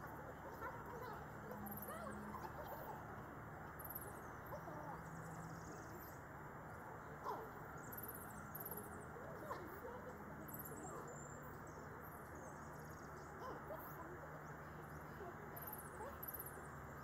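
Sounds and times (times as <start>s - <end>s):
birds chirping trills: 0.0s - 17.0s
faint outdoor background: 0.0s - 17.0s.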